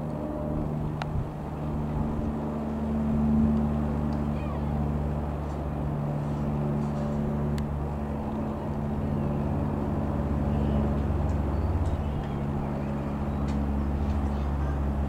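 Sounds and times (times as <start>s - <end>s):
propeller plane droning overhead: 0.0s - 15.0s.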